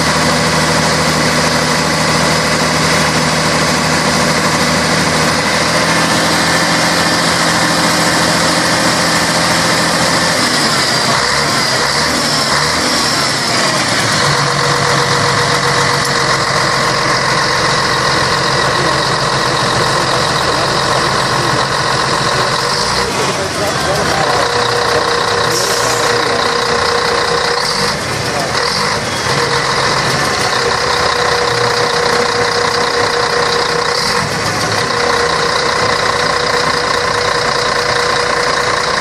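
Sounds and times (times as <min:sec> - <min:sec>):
bus diesel engine idling: 0:00.0 - 0:39.0.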